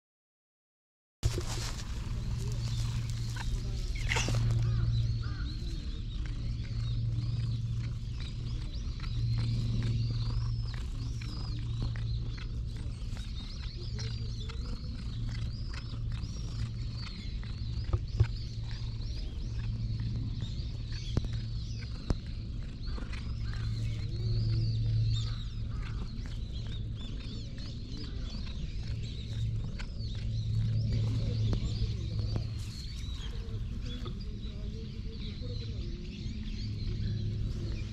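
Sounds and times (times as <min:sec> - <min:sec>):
cat purring: 0:01.2 - 0:37.9
small birds chirping: 0:01.2 - 0:37.9
steady low hum: 0:01.2 - 0:37.9.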